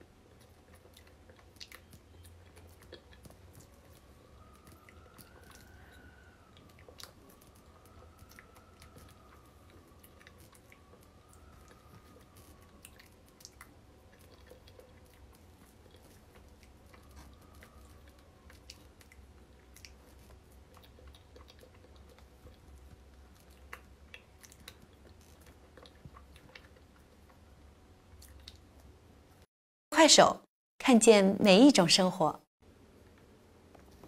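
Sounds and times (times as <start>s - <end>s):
chewing wet mouth clicks: 0.4s - 27.4s, 28.2s - 28.9s.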